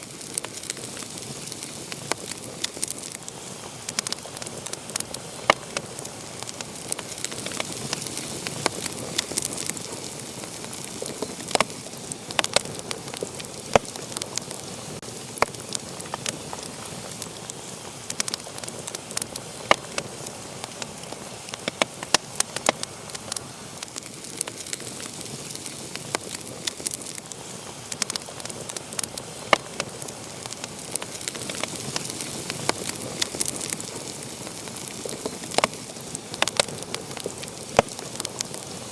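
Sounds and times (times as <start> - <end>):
hiss of flame: 0.0 - 38.9
wood fire crackling and popping: 0.0 - 38.9.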